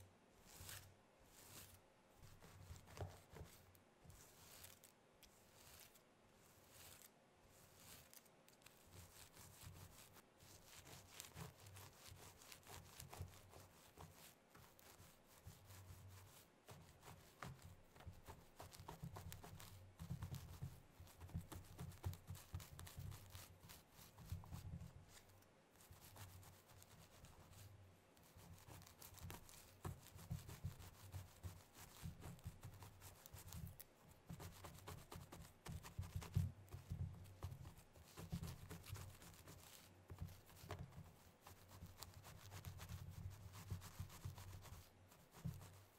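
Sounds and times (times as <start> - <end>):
nails scratching hair and scalp: 0.4 - 45.9.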